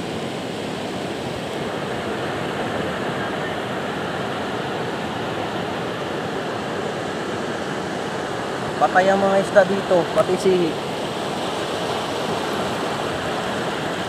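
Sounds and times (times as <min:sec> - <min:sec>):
sea waves washing on shore: 0:00.0 - 0:14.0.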